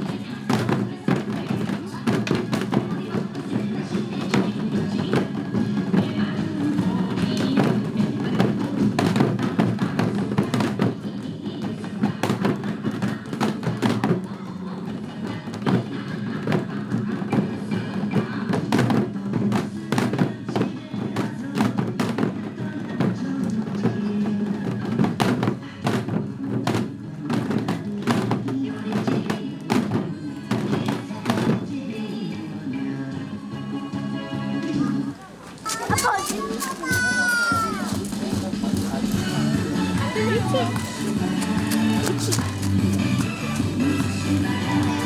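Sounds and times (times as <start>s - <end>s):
recorded pop song: 0.0s - 45.0s.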